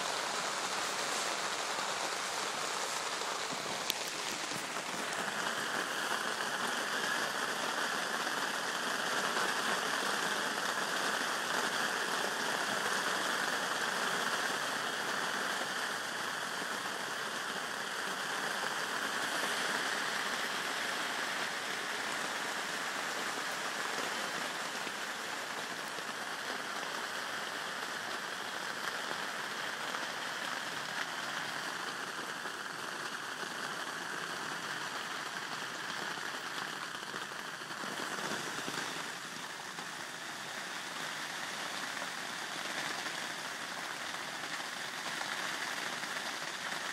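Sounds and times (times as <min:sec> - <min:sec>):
rain falling on water: 0:00.0 - 0:46.9.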